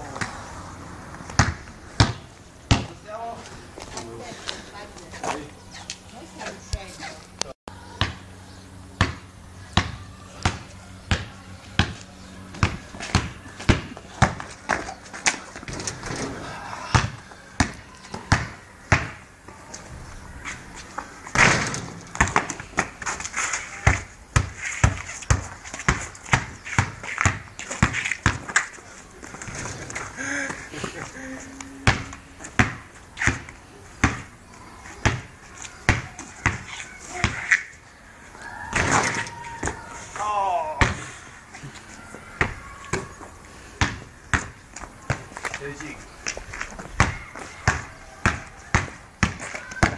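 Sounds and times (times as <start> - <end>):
basketball bouncing on pavement: 1.0 - 4.0, 8.0 - 8.4, 9.0 - 16.3, 16.9 - 19.6, 20.4 - 31.1, 31.8 - 37.7, 38.7 - 39.8, 40.7 - 49.9.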